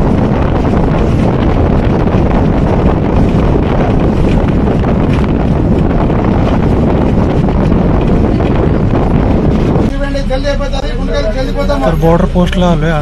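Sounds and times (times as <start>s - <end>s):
bus and road rumble: 0.0s - 13.0s
wind buffeting microphone: 0.0s - 13.0s.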